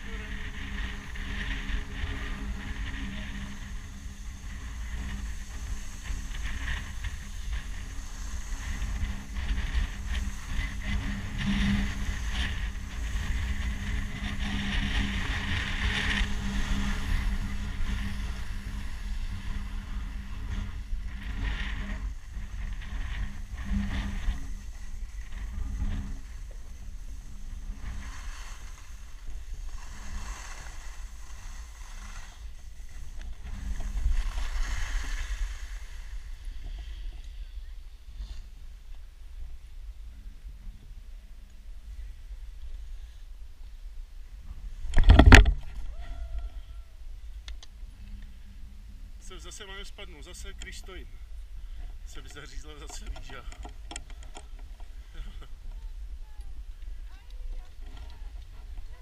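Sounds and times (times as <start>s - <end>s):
skis sliding on snow: 0.0s - 39.0s, 49.2s - 59.0s
wind buffeting microphone: 0.0s - 42.9s, 43.7s - 59.0s.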